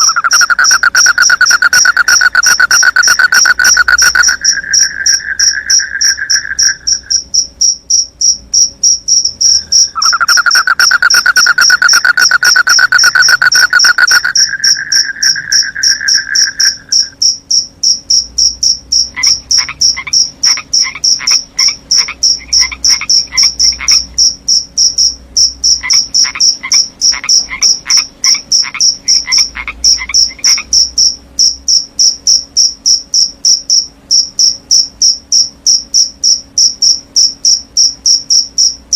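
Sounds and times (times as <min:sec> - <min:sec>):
frogs calling: 0:00.0 - 0:38.8
crickets chirping: 0:00.0 - 0:38.9.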